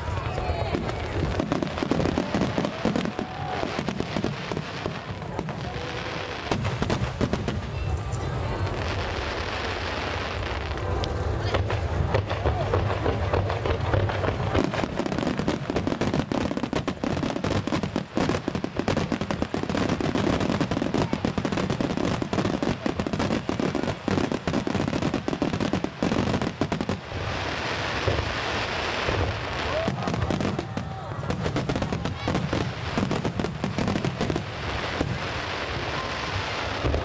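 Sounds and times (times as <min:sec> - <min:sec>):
fireworks bursting: 0:00.0 - 0:37.0
fireworks hiss: 0:00.0 - 0:37.0.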